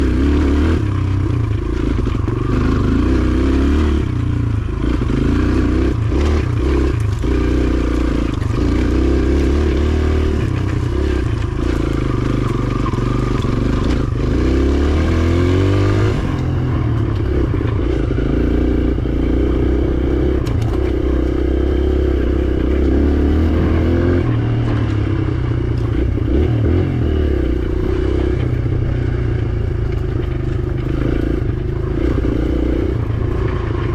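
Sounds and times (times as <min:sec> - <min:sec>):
dirt bike engine revving: 0:00.0 - 0:33.9.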